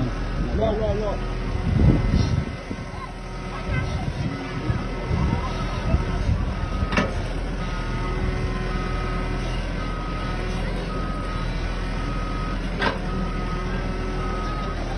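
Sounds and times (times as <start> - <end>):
diesel engine running: 0.0 - 14.9
excavator motion alarm beeping: 1.4 - 14.9.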